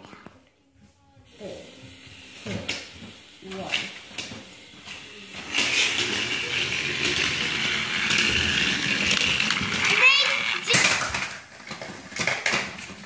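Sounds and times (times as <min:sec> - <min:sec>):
toy engines whirring rattle: 0:01.6 - 0:13.0.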